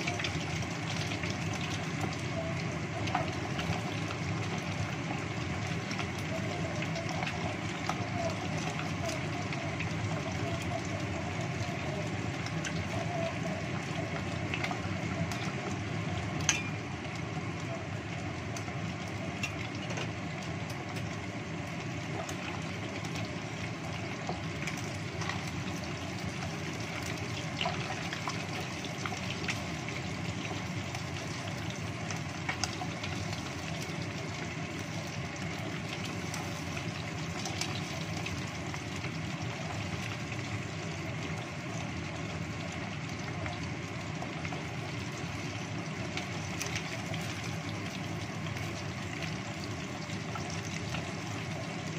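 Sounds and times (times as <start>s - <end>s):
oil sizzling: 0.0s - 51.9s.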